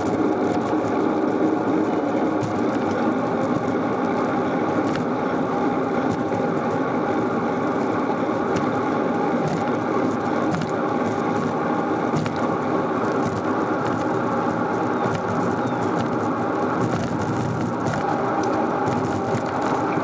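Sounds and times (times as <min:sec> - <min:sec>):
bicycle rolling on pavement: 0:00.0 - 0:20.0.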